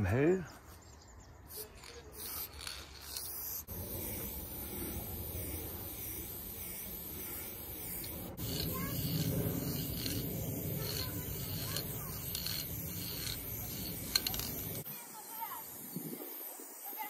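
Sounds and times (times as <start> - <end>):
spray paint can hissing: 1.5 - 17.0.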